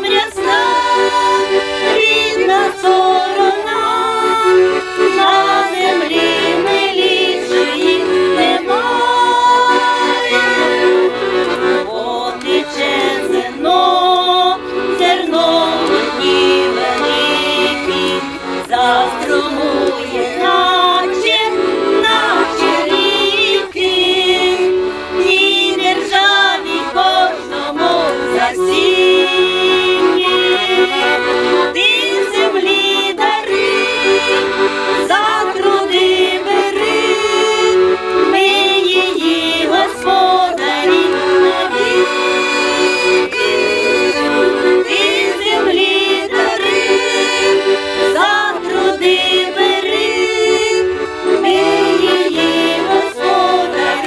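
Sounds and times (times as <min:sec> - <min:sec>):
accordion folk melody: 0:00.0 - 0:54.0.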